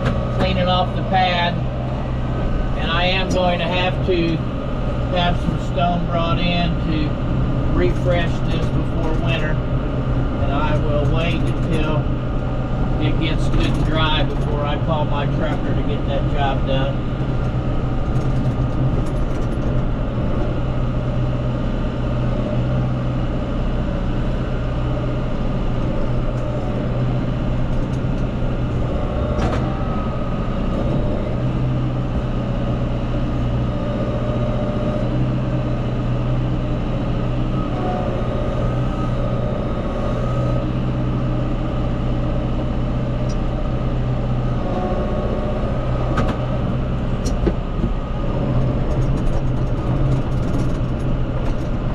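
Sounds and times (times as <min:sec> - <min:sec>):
farm machine engine running: 0:00.0 - 0:51.9.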